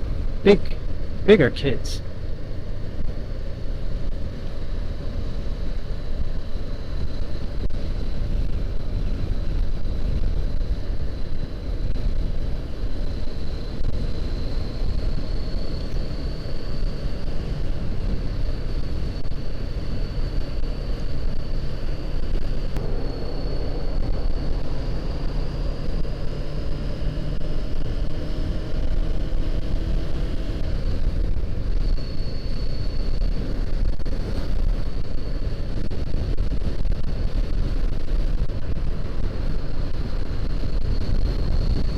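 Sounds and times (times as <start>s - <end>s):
wind rumble on microphone: 0.0s - 1.3s, 2.0s - 41.9s
motorcycle engine running: 2.0s - 41.9s.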